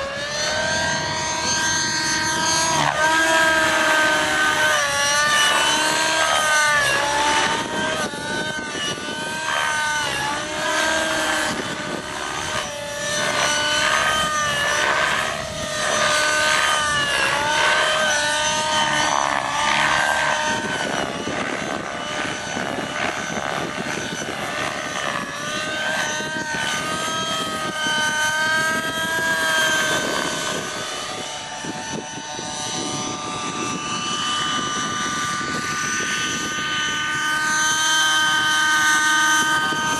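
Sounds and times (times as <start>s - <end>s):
model helicopter engine and rotor whine: 0.0s - 39.9s.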